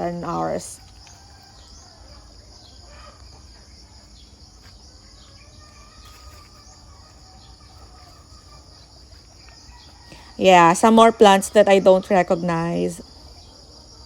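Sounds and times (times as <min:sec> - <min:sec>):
faint bird chirps: 0:00.0 - 0:14.0
high-pitched insect drone: 0:00.0 - 0:14.0.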